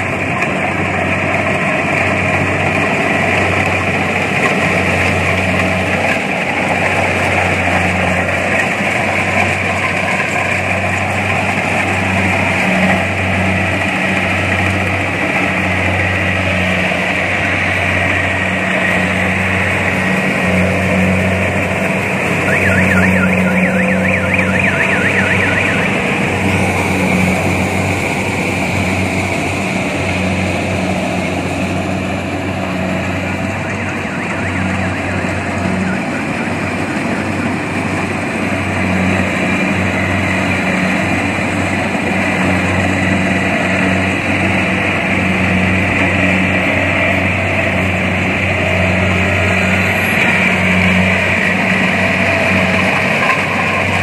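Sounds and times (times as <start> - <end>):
combine harvester engine drone: 0.0 - 54.0
machinery whine: 0.0 - 54.0.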